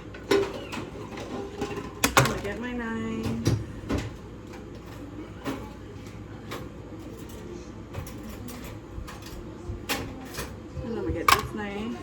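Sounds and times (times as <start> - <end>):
kitchen items clicking and knocking: 0.0 - 5.7, 6.5 - 12.0.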